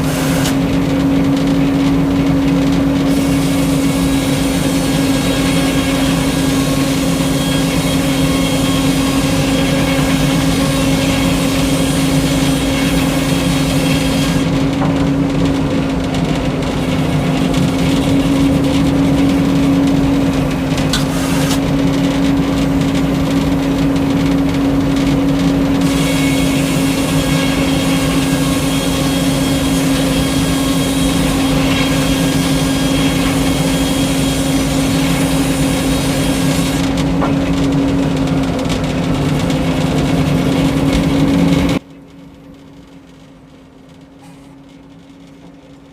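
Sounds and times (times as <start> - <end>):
circular sawmill running: 0.0 - 45.9.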